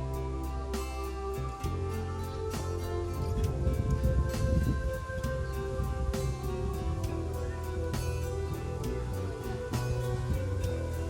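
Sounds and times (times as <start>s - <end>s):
low bass: 0.0s - 11.0s
plucked guitar notes: 0.0s - 11.0s
soft instrumental music: 0.0s - 11.0s.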